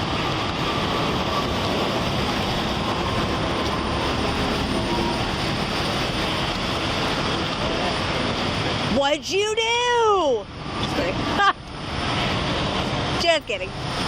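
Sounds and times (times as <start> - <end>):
traffic on wet pavement: 0.0 - 14.0.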